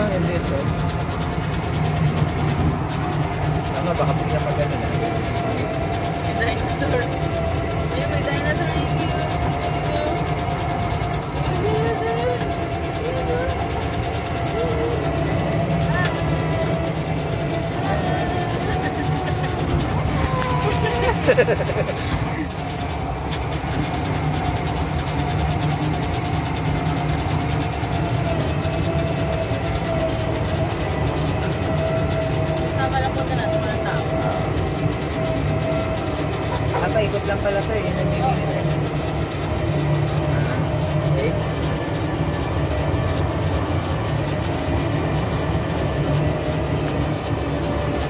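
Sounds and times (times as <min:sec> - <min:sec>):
engine running with whine: 0:00.0 - 0:48.0.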